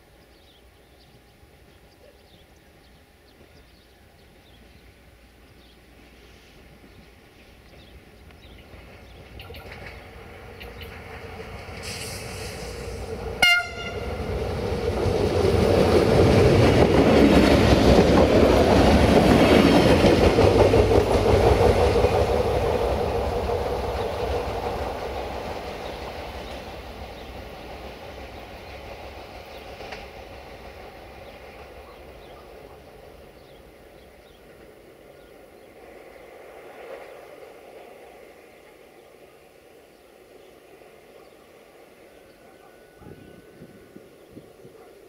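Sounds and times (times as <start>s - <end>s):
diesel train passing: 0.0s - 45.0s.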